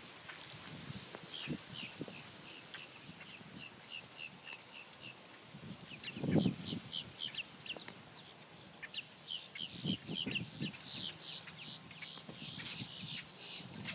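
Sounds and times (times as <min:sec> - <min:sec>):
birds chirping: 0:00.9 - 0:13.9.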